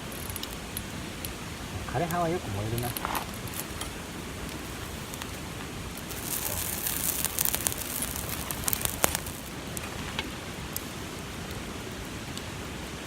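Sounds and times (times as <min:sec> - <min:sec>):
campfire crackling and popping: 0:00.0 - 0:13.0
fire hissing: 0:00.0 - 0:13.0.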